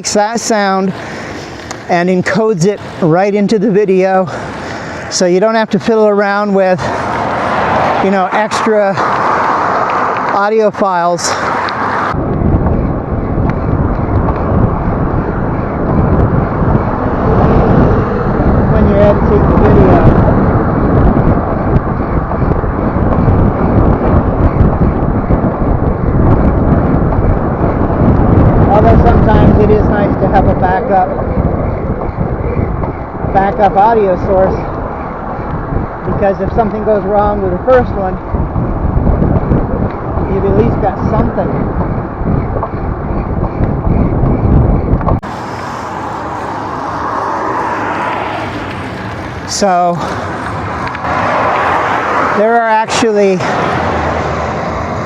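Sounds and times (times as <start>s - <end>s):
traffic rushing: 0.0s - 55.0s
vehicle rumble: 0.0s - 55.0s
wind noise: 0.0s - 55.0s.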